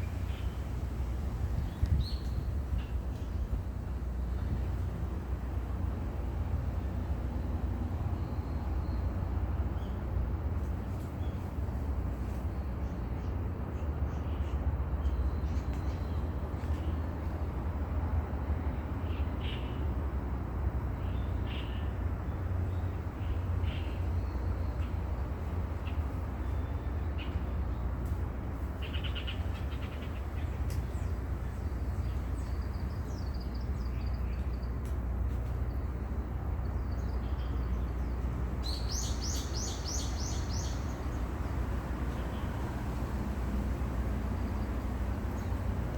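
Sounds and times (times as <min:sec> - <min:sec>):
low outdoor rumble by sea: 0:00.0 - 0:45.9.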